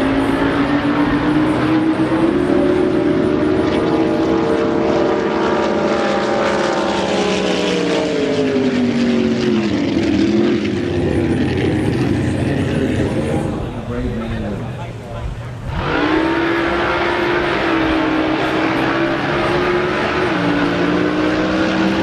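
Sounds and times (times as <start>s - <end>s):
boat engine at high revs: 0.0s - 14.6s, 15.2s - 22.0s.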